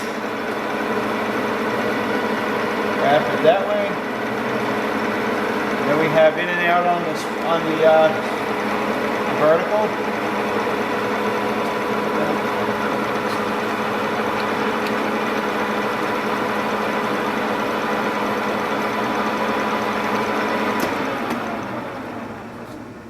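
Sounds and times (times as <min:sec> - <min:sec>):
milling machine humming: 0:00.0 - 0:23.0.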